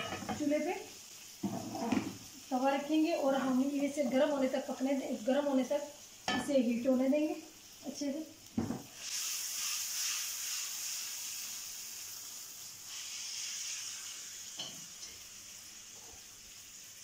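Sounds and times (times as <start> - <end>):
water sizzling on hot griddle: 0.0 - 17.0.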